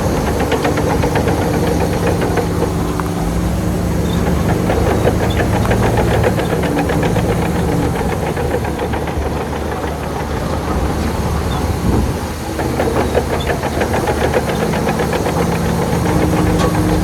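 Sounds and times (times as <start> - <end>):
diesel machine engine running: 0.0 - 17.0
fast metallic clatter: 0.0 - 17.0.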